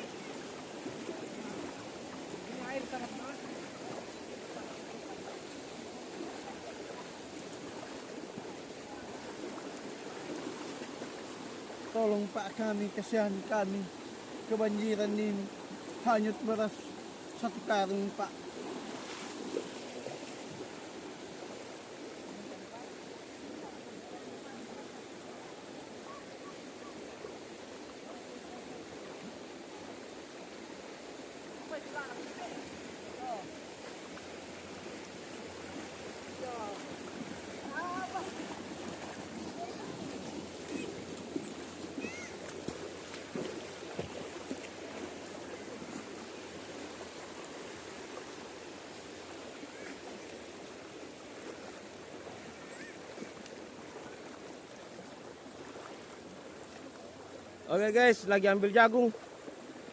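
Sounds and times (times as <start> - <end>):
floodwater rushing: 0.0 - 59.9.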